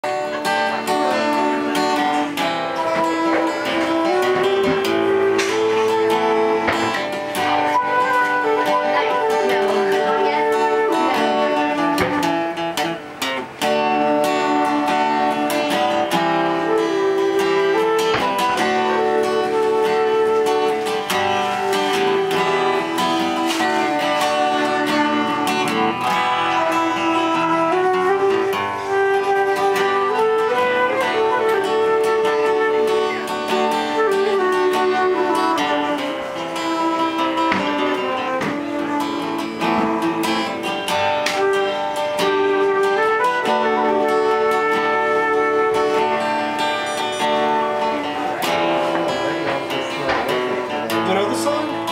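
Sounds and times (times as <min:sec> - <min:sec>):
acoustic guitar strummed and picked: 0:00.0 - 0:51.9
flute melody: 0:00.0 - 0:51.9.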